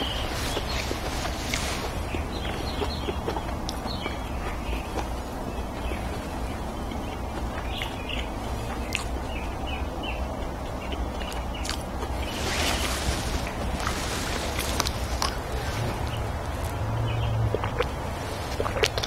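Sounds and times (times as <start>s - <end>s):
wet chewing with mouth clicks: 0.0s - 19.0s.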